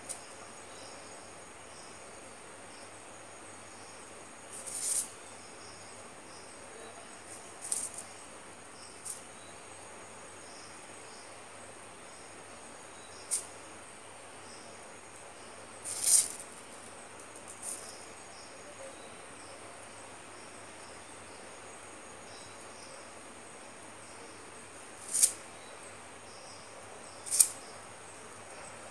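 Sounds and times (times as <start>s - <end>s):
crickets chirping: 0.0s - 28.9s
faint hiss: 0.0s - 28.9s.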